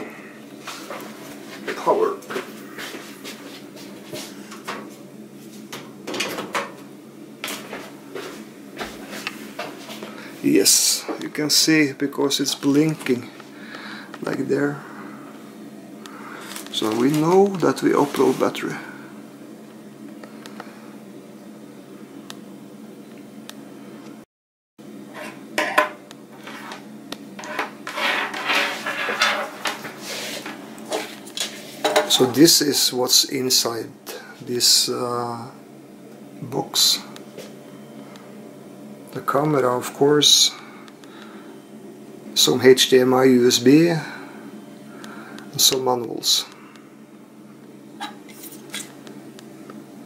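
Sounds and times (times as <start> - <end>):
faint steady hum: 0.0 - 24.2, 24.8 - 50.0.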